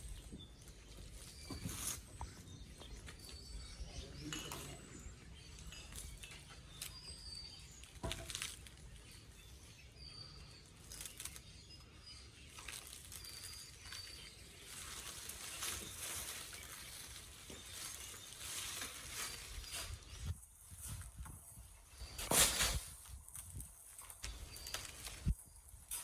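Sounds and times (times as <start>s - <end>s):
bird chirping: 0.0s - 21.0s, 24.0s - 25.9s.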